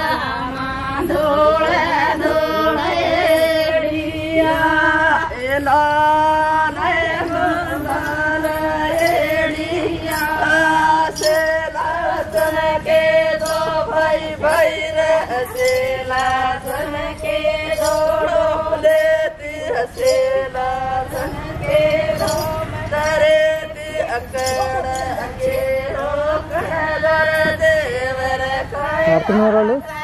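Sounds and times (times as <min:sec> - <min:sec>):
group singing folk song in unison: 0:00.0 - 0:30.0
sharp rhythmic beats: 0:05.8 - 0:30.0.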